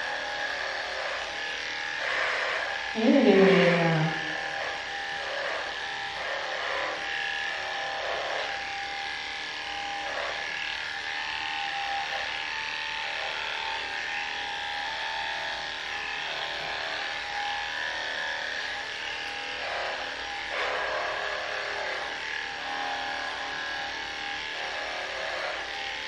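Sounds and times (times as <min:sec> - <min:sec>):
electric clippers humming: 0:00.0 - 0:26.0.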